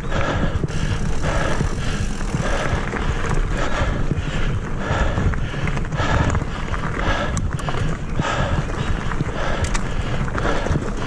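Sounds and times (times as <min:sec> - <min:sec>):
bike tyres rumbling on dirt trail: 0:00.0 - 0:11.0.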